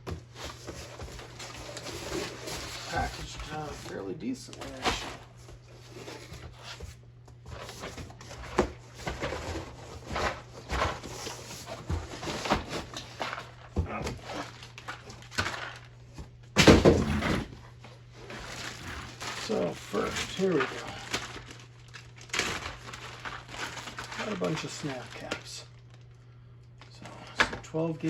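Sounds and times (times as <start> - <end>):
packaging rustling and crinkling: 0.2 - 17.5, 18.1 - 26.2.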